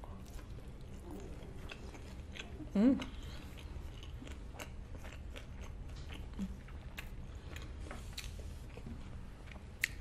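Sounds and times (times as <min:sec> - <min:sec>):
close chewing with wet smacks: 0:00.0 - 0:10.0.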